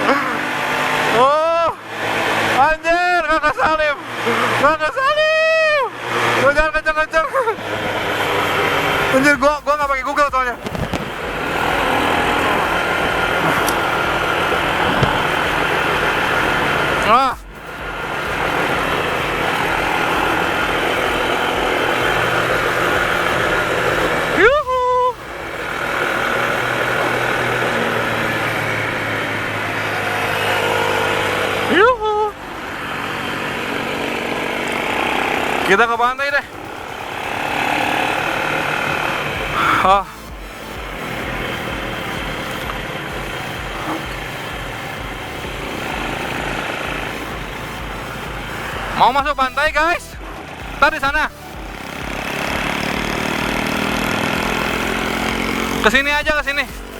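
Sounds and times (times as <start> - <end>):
atv engine running: 0.0 - 56.9
rush of noise: 0.0 - 56.9.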